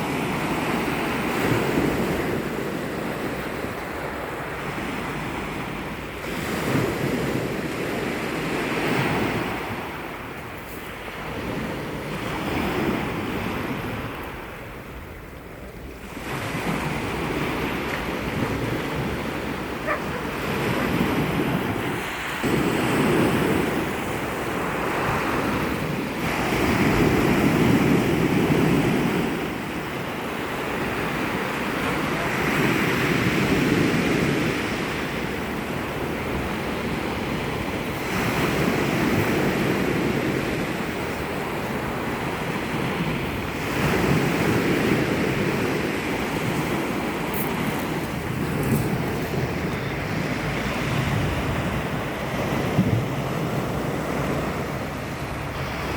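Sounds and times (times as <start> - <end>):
waves breaking ashore: 0.0 - 55.9
wind buffeting microphone: 0.0 - 55.9.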